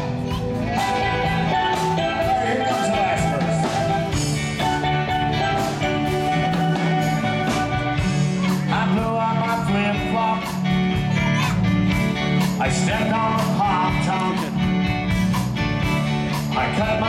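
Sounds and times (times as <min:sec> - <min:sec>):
live band playing amplified music: 0:00.0 - 0:17.0.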